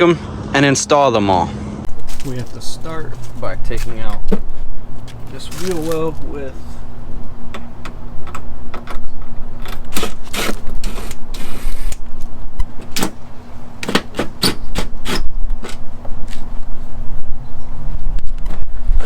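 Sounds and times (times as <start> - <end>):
faint steady hum: 1.8 - 19.0.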